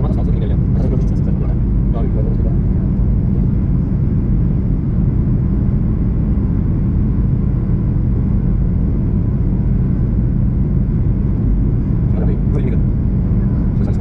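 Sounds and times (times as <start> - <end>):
vehicle cabin rumble: 0.0 - 14.0.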